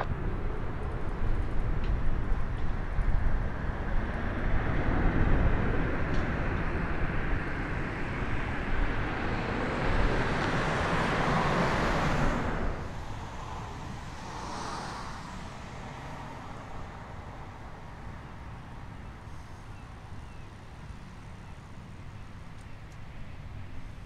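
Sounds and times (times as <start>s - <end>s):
jet engines rushing: 0.0s - 22.6s
faint outdoor background: 0.0s - 24.0s.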